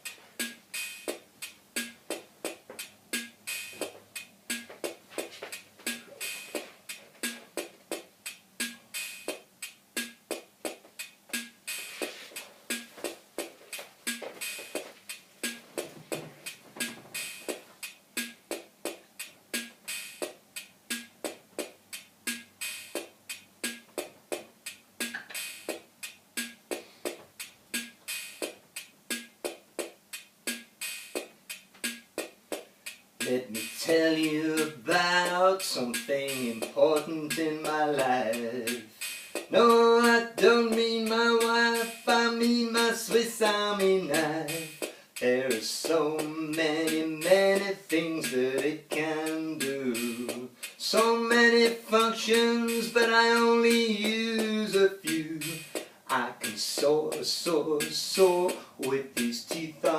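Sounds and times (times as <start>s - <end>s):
instrumental music with quick beat: 0.0s - 59.9s.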